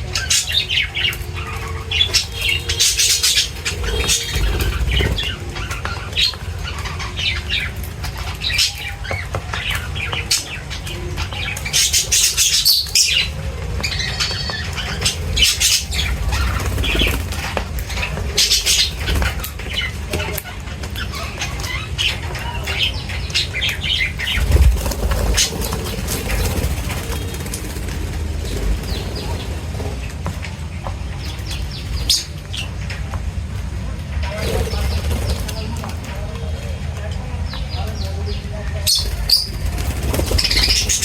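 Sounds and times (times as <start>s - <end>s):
birds chirping and squawking: 0.0s - 41.0s
steady low rumble: 0.9s - 35.8s.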